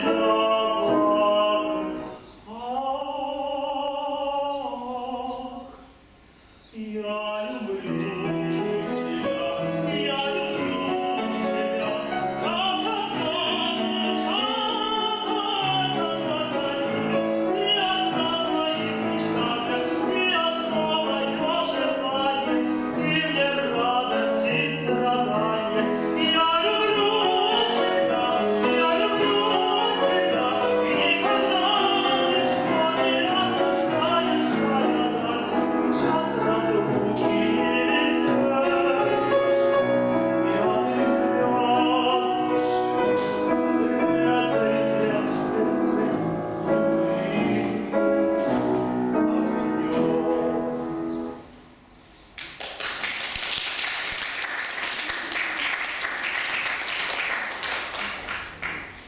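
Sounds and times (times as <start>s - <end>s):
piano accompaniment: 0.0s - 4.1s, 7.0s - 59.0s
man singing operatic style: 0.0s - 6.0s, 6.7s - 51.5s.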